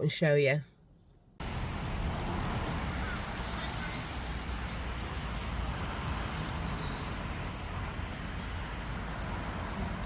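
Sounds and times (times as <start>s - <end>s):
road traffic rumble: 0.8s - 10.0s.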